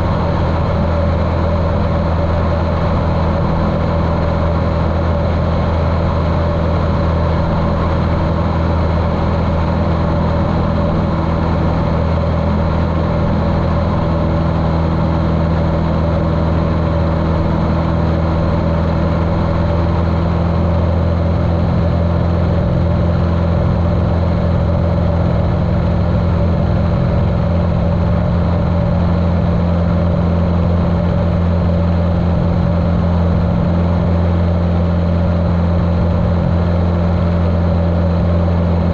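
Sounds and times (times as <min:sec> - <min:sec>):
muffled aircraft engine drone: 0:00.0 - 0:38.9.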